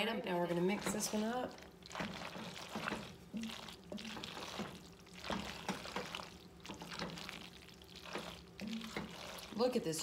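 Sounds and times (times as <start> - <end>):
wooden spoon stirring pasta in pot: 0.3 - 10.0.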